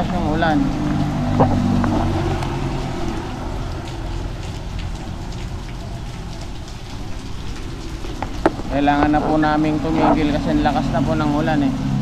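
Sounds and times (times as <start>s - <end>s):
low rumble: 0.0s - 11.1s
heavy rain: 0.0s - 12.0s
raindrops ticking on microphone: 0.0s - 12.0s.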